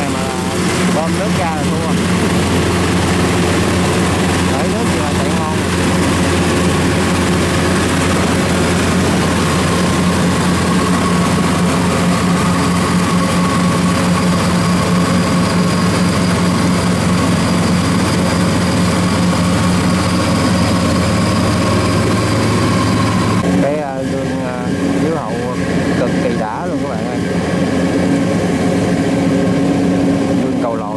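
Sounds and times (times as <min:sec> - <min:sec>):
motor humming: 0:00.0 - 0:30.9.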